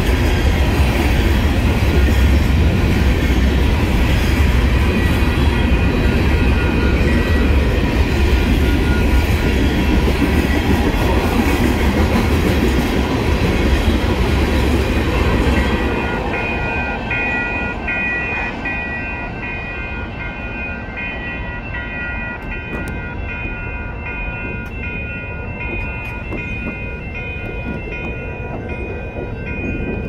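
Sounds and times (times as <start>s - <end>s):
clickety-clack of rail joints: 0.0s - 19.2s, 21.9s - 30.0s
freight train rumbling past: 0.0s - 30.0s.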